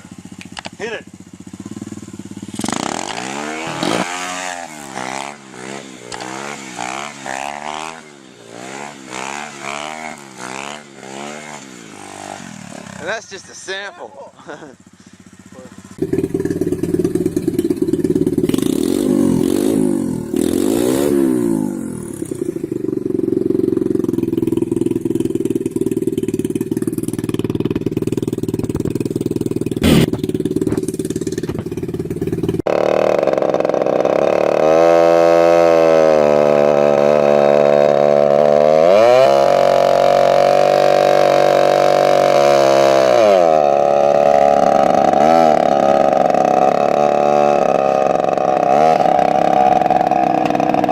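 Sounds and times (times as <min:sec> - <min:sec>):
mini motorbike engines revving: 0:01.6 - 0:50.9.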